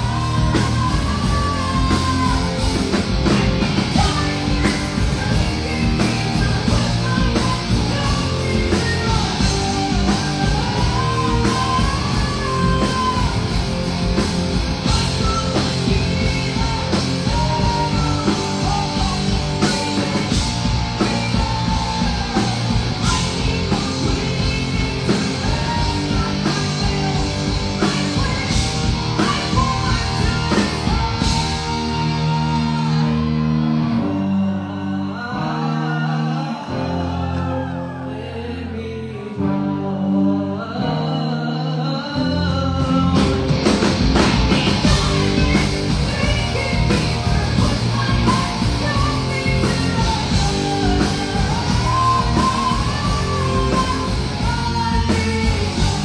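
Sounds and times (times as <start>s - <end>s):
rock band playing live: 0.0s - 37.8s, 42.2s - 56.0s.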